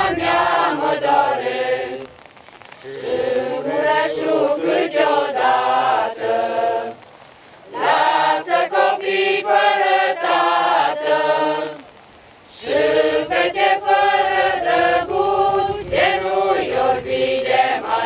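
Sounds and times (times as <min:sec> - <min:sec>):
men singing unaccompanied: 0:00.0 - 0:02.1, 0:02.8 - 0:07.0, 0:07.7 - 0:11.9, 0:12.5 - 0:18.0.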